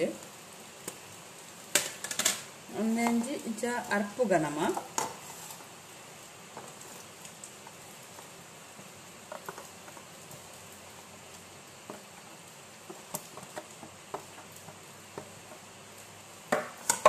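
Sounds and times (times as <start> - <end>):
steady faint hiss: 0.0 - 17.0.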